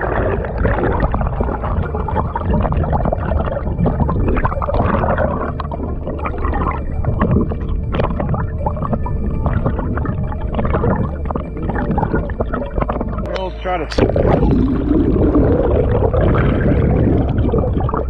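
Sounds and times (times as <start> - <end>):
muffled underwater water rushing: 0.0 - 18.0.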